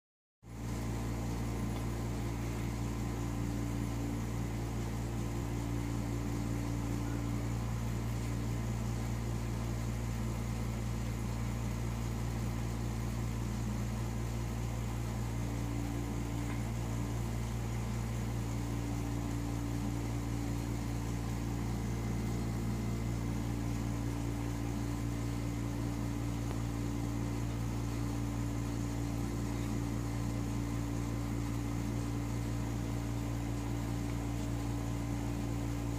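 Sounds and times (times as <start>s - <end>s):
machine humming: 0.5s - 35.9s.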